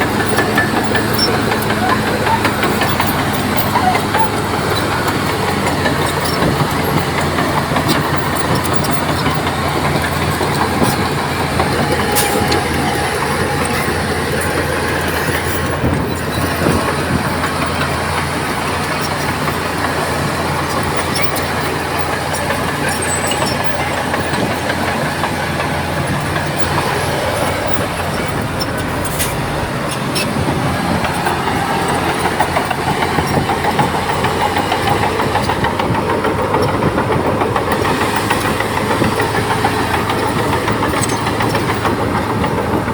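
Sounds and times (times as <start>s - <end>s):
bulldozer diesel engine running: 0.0s - 42.9s
steel tracks clattering: 0.0s - 42.9s.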